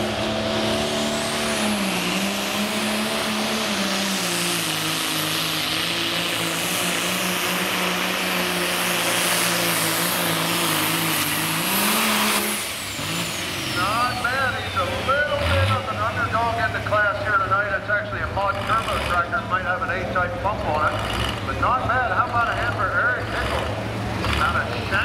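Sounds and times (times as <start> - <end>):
diesel engine drone: 0.0 - 25.0
turbocharger whine: 0.0 - 25.0.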